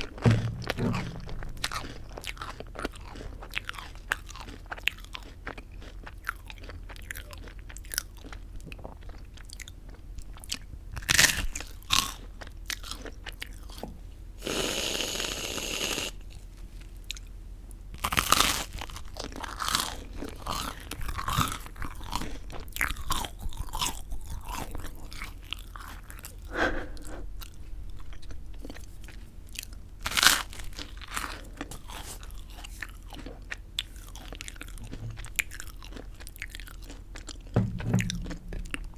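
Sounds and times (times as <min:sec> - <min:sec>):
crunchy bites and chewing: 0:00.0 - 0:13.8, 0:18.0 - 0:26.5, 0:27.4 - 0:38.6.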